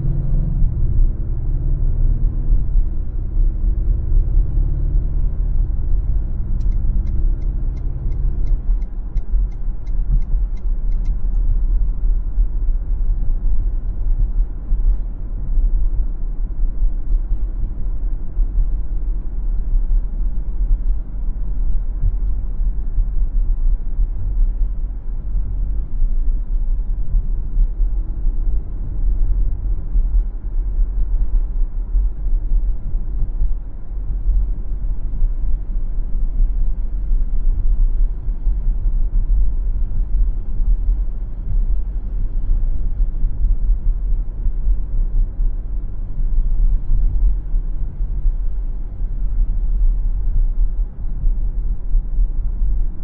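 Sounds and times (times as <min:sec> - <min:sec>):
car road and engine rumble: 0:00.0 - 0:53.0
engine hum: 0:00.0 - 0:53.0.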